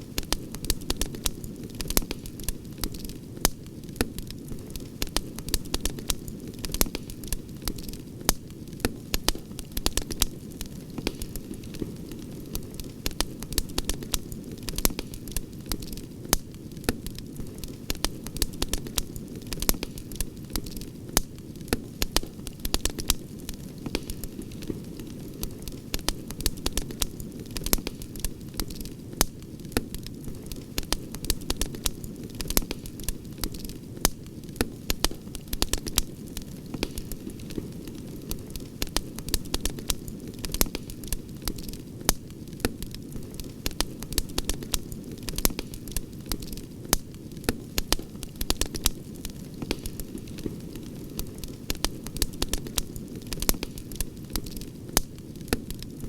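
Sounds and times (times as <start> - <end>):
campfire crackling and popping: 0.0 - 56.0
low rush of flames: 0.0 - 56.0.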